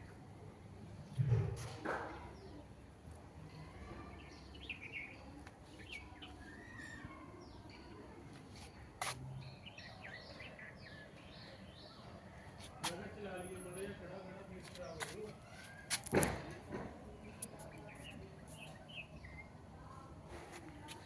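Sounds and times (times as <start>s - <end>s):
small birds chirping: 3.4s - 21.0s.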